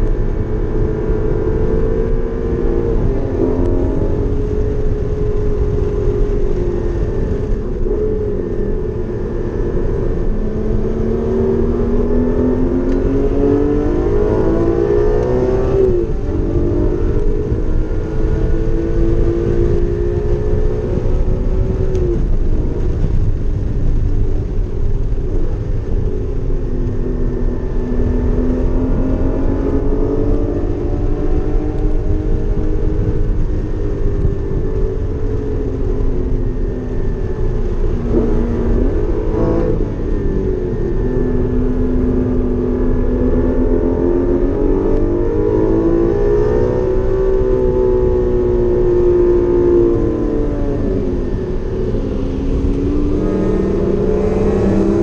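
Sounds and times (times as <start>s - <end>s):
car engine at high revs: 0.0s - 55.0s
road and tyre rumble: 0.0s - 55.0s.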